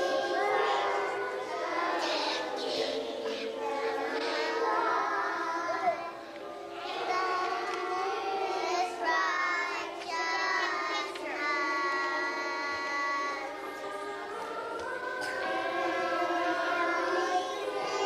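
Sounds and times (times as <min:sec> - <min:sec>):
children singing together: 0:00.0 - 0:18.0.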